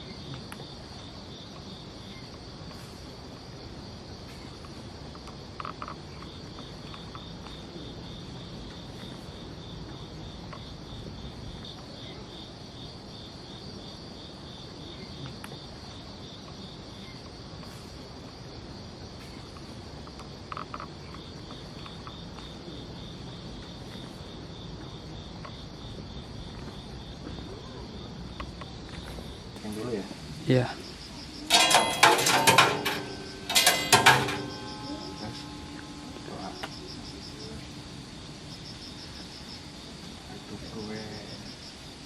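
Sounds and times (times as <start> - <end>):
crickets chirping: 0.0 - 42.0
insect trill: 0.0 - 42.0.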